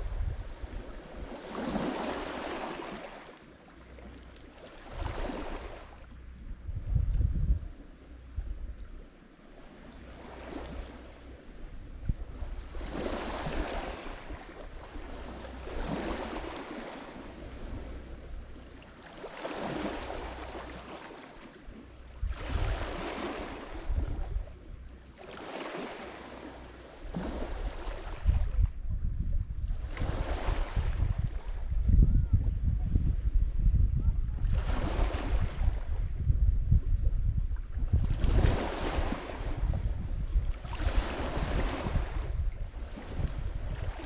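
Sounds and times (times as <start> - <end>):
waves breaking on shore: 0.0 - 6.1, 9.5 - 28.8, 29.7 - 31.8, 34.3 - 36.1, 37.8 - 44.0.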